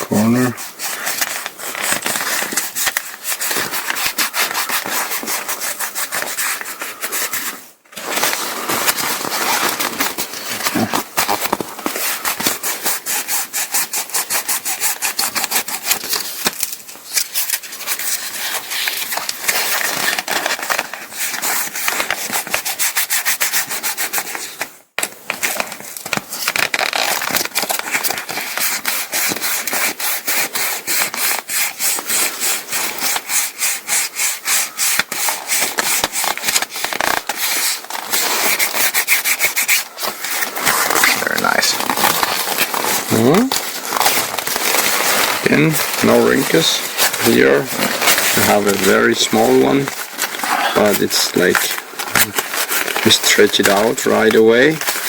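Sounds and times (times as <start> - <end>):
hand rubbing fabric patch: 0.0 - 16.2, 26.5 - 55.0.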